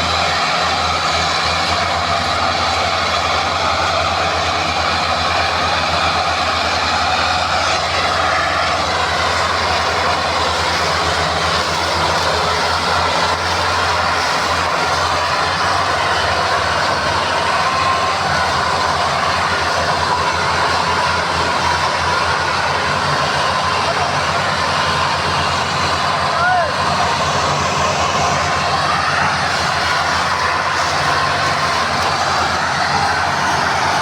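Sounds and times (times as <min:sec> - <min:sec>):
tractor diesel engine throbbing: 0:00.0 - 0:34.0.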